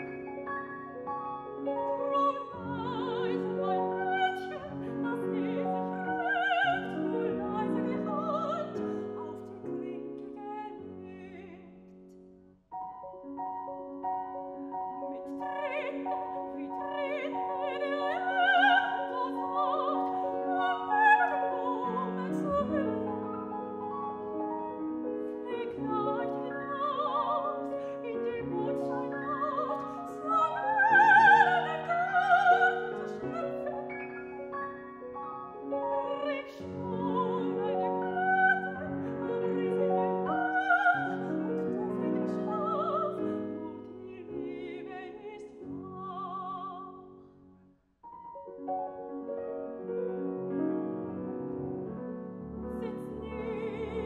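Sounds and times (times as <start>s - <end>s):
soprano singing with vibrato: 0.0s - 11.9s, 13.0s - 47.2s, 52.7s - 54.0s
grand piano: 0.0s - 54.0s.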